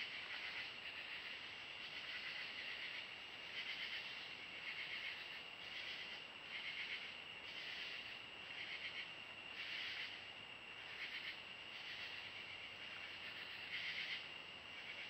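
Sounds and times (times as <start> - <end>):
insects trilling in chorus: 0.0 - 15.0.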